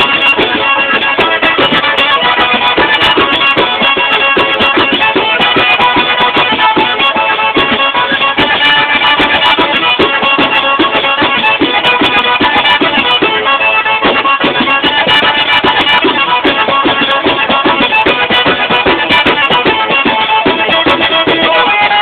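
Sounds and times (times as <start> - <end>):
frame drum beat with jingles: 0.0 - 22.0
reedy accordion melody: 0.0 - 22.0.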